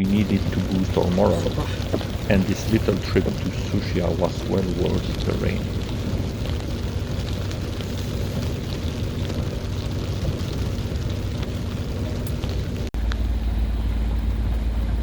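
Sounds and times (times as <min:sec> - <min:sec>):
faint steady hum: 0:00.0 - 0:15.0
water noise: 0:00.0 - 0:15.0
wind rumble on microphone: 0:00.0 - 0:15.0.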